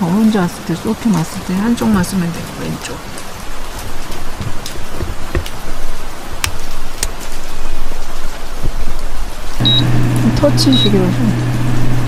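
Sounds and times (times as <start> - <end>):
rain on car roof: 0.0 - 12.0.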